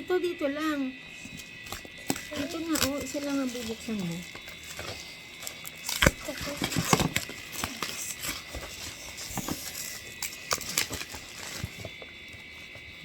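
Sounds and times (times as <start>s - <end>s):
faint steady high tone: 0.0s - 13.0s
packaging rustling and tapping: 1.3s - 13.0s.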